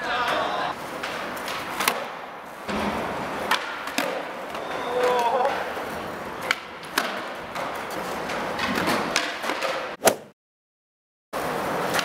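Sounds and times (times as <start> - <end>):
skateboard wheels rolling on concrete: 0.0 - 10.0, 11.4 - 12.0
skateboard clacks: 0.1 - 10.0.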